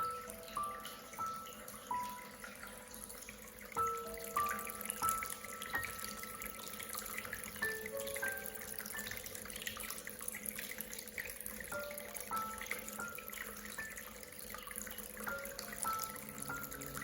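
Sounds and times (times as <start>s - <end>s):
water drips: 0.0s - 17.0s
waterfall splashing and trickling: 0.0s - 17.0s.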